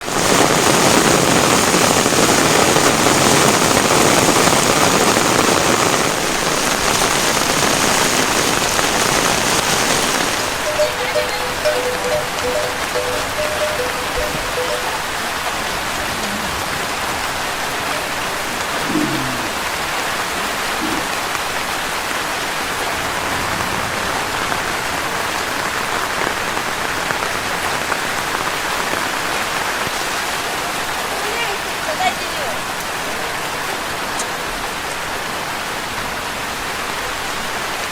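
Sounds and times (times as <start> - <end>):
steady rain hissing: 0.0 - 37.9.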